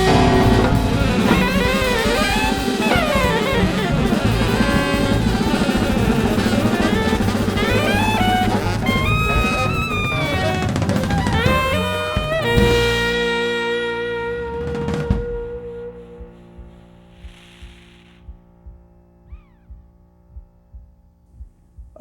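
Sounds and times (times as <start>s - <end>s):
saxophone: 0.0s - 18.3s
jazz drums: 0.0s - 22.0s.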